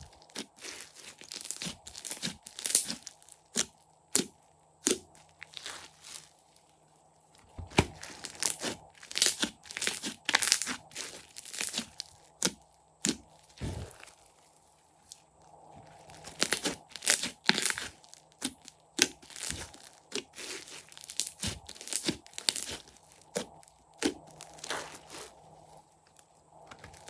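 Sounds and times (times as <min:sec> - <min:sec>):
crunchy slime crackling: 0:00.0 - 0:27.0.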